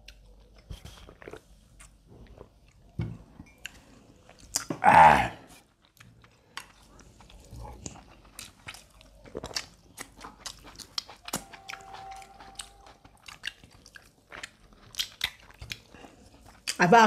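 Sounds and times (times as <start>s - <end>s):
people chewing and biting: 0.0s - 3.0s, 3.6s - 16.8s.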